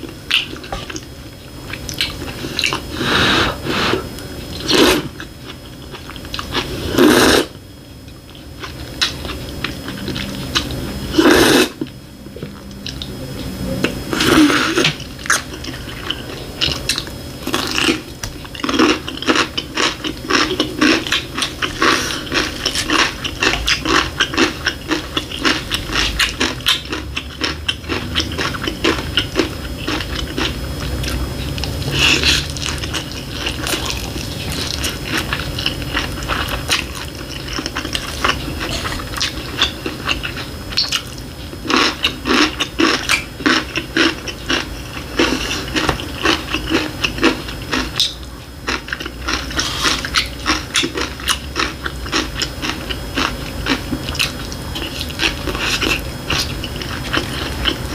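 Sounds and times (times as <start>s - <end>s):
chewing and slurping noodles: 0.0s - 57.9s.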